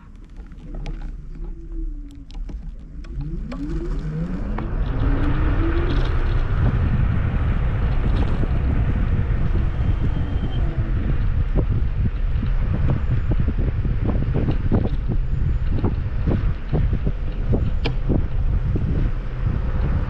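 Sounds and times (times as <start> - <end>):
electric scooter motor whine: 0.0 - 20.0
wind rumble on microphone: 0.0 - 20.0.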